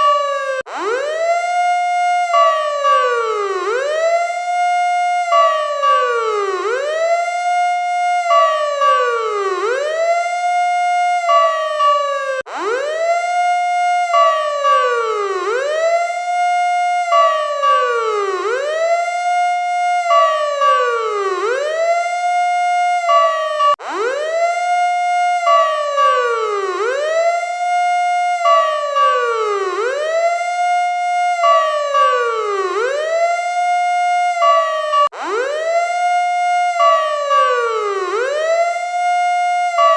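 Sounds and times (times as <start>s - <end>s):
electronic emergency siren: 0.0s - 39.9s.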